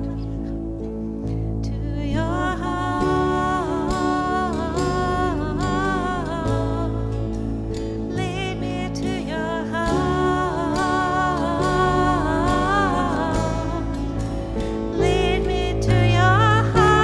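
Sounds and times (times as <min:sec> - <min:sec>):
person singing: 0:00.0 - 0:00.6, 0:01.6 - 0:17.0
band sustained chords: 0:00.0 - 0:17.0.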